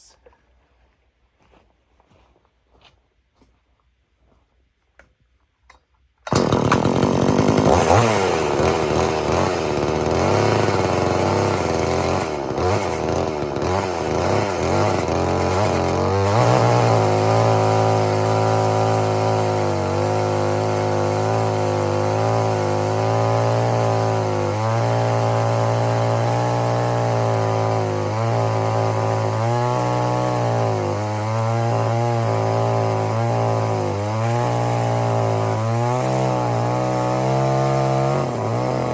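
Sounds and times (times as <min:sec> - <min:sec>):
chainsaw running: 0:06.2 - 0:38.9.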